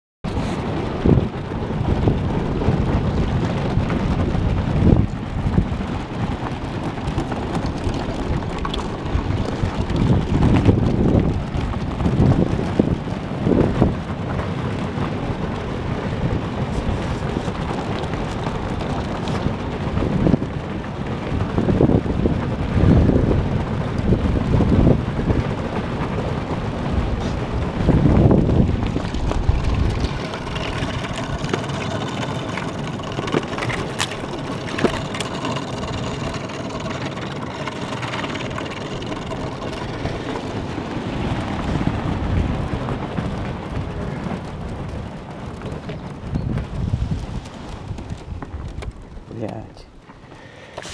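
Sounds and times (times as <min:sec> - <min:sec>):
wind on microphone: 0:00.2 - 0:50.9
ice cracking against boat: 0:02.2 - 0:21.2, 0:25.4 - 0:49.6.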